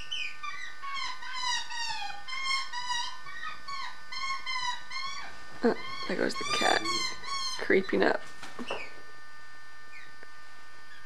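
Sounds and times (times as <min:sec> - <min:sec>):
magpie warbling: 0:00.0 - 0:08.9.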